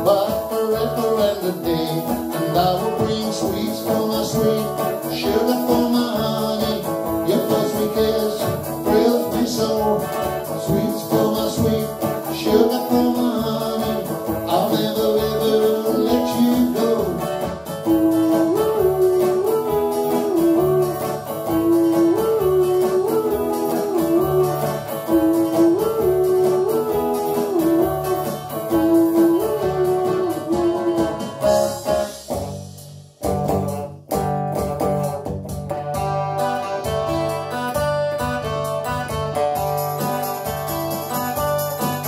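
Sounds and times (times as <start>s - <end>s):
guitar-led song intro: 0.0s - 42.0s
pop song instrumental: 0.0s - 42.0s.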